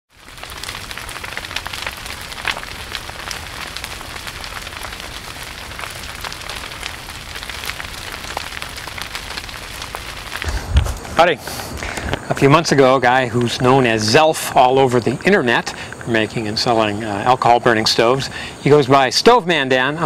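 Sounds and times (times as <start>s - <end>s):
wood fire crackling: 0.1s - 20.0s.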